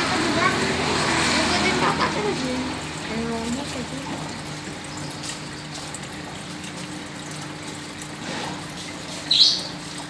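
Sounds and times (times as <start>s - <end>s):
aquarium water trickling: 0.0s - 10.0s.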